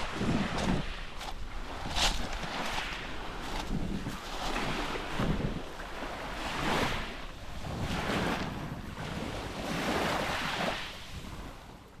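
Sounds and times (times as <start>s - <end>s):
small waves washing onto shore: 0.0s - 12.0s
wind on microphone: 0.0s - 12.0s.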